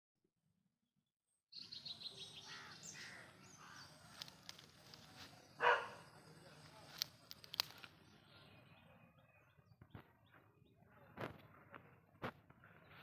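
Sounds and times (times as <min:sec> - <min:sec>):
birds chirping: 0:01.5 - 0:13.0.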